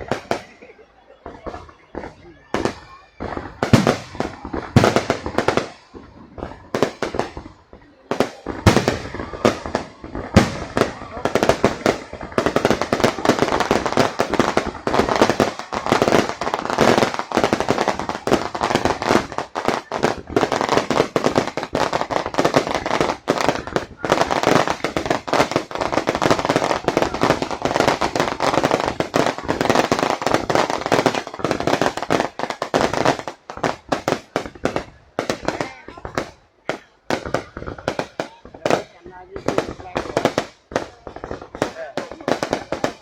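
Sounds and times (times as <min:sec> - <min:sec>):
fireworks crackling and banging: 0:00.0 - 0:43.0.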